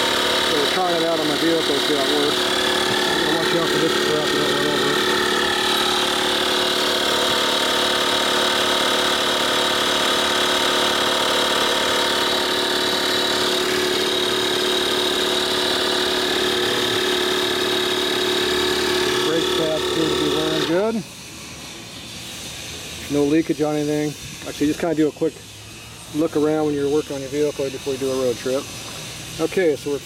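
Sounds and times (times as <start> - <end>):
tyre inflator compressor running: 0.0 - 30.0.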